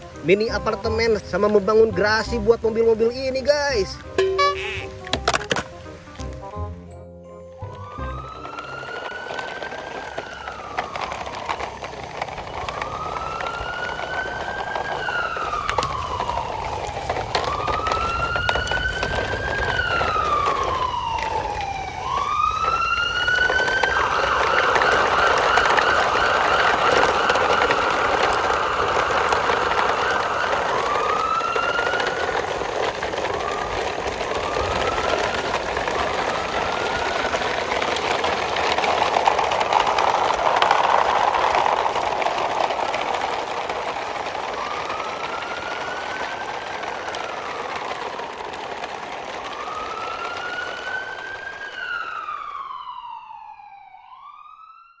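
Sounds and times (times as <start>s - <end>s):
siren wailing: 7.7s - 55.0s.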